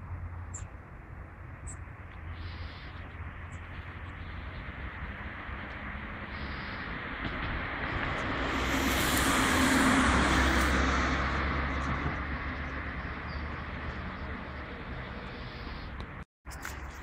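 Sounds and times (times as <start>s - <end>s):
vehicle passing by: 2.3s - 16.0s.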